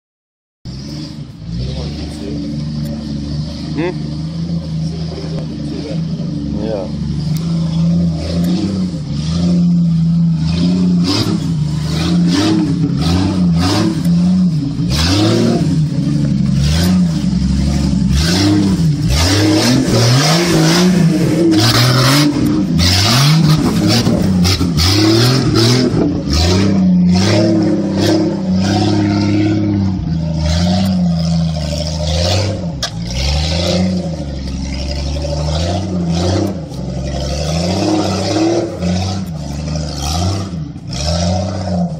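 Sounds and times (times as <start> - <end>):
car engine revving under load: 0.7 - 41.9.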